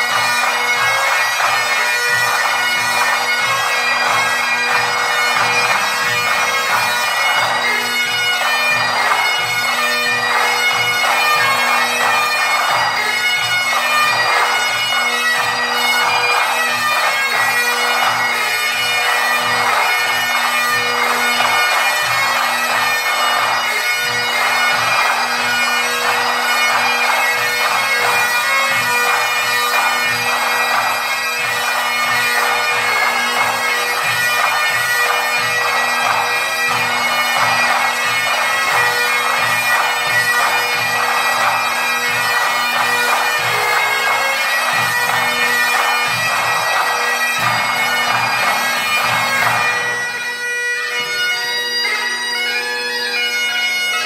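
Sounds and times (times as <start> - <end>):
bagpipes playing a tune: 0.0 - 54.0.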